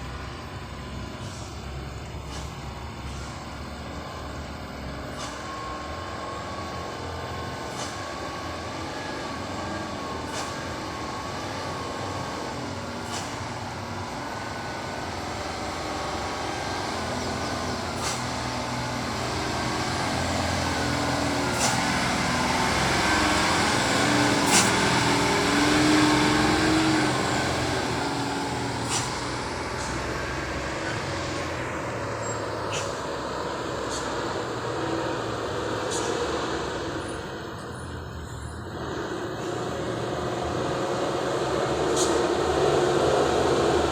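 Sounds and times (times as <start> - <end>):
diesel truck engine under load: 0.0 - 43.9.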